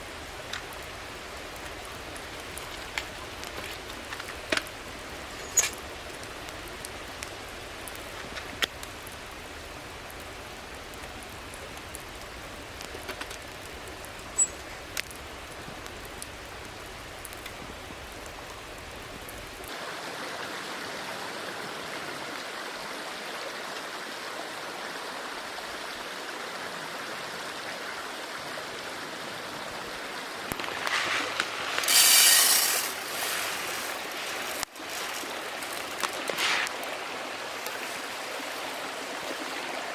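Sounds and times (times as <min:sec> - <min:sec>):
rain falling: 0:00.0 - 0:39.9
small stream flowing: 0:00.0 - 0:39.9.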